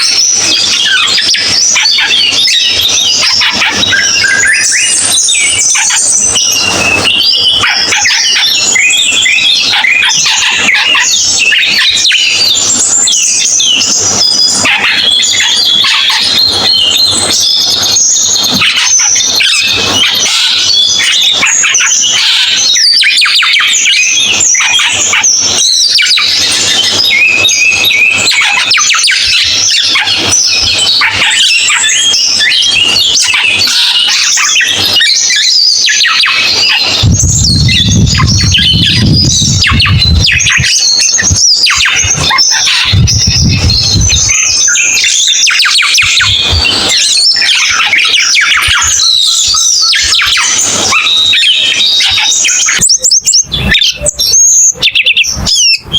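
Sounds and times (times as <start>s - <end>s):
bird chattering song: 0.0s - 55.9s.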